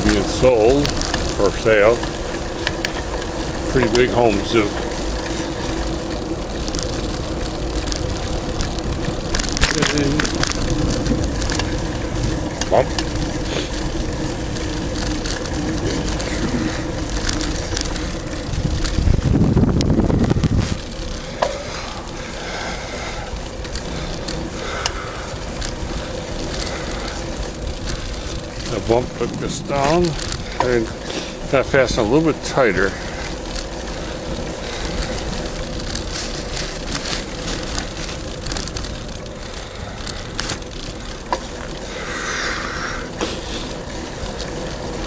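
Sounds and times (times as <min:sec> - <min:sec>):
bicycle clicks and rattles: 0:00.0 - 0:45.0
low rumble: 0:00.0 - 0:45.0
wind and road noise: 0:00.0 - 0:45.0.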